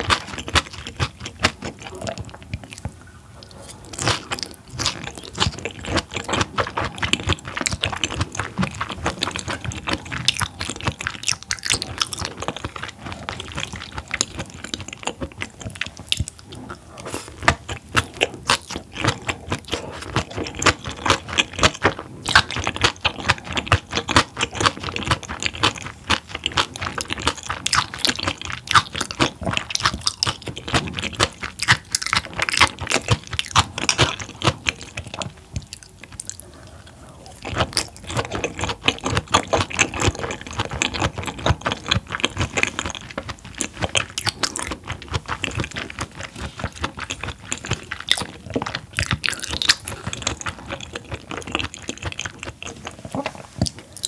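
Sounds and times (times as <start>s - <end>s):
close chewing mouth clicks: 0.0s - 54.0s.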